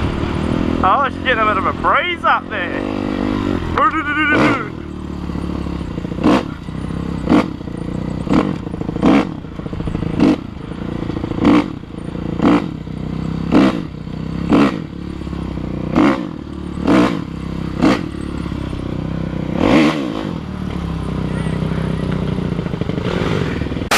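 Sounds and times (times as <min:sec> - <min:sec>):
dirt bike engine running: 0:00.0 - 0:23.9.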